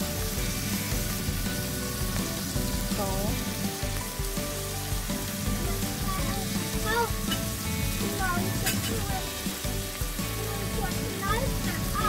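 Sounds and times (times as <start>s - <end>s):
background music: 0.0s - 12.0s
shrimp sizzling in a wok: 0.0s - 12.0s.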